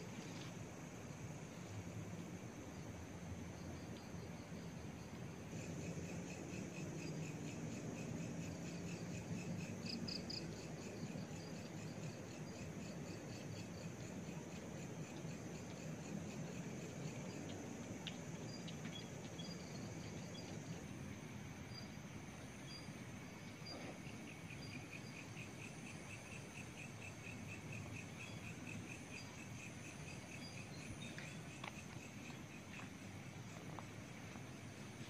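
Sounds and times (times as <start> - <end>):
crickets chirping: 0.0 - 35.0
low hiss: 0.0 - 35.0.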